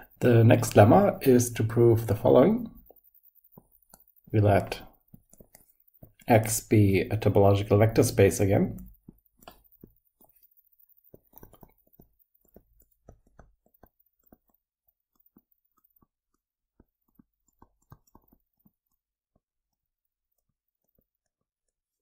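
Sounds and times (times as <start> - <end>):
stylus scratching on tablet: 0.0 - 22.0.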